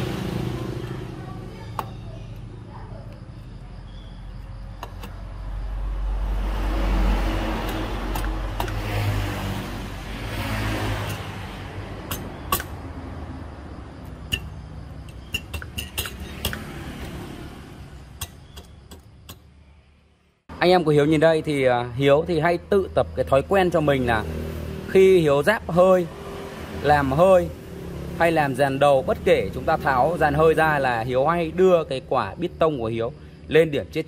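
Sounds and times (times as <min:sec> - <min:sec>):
motor vehicle passing by: 0:00.0 - 0:02.6, 0:04.3 - 0:20.0, 0:22.0 - 0:32.0.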